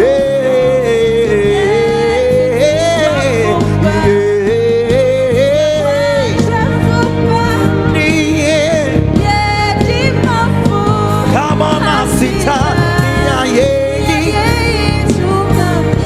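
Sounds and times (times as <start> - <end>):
band accompaniment: 0.0 - 16.0.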